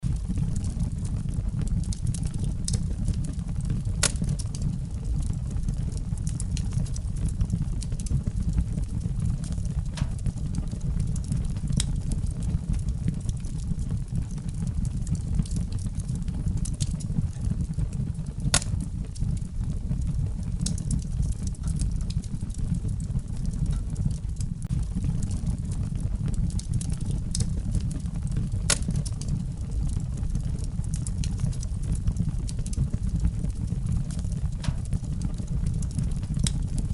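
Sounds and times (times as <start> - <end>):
fire crackling and popping: 0.0 - 36.9
rumble of flames: 0.0 - 36.9.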